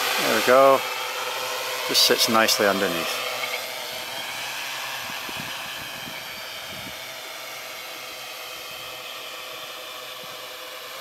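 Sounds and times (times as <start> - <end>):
drone hovering: 0.0 - 11.0.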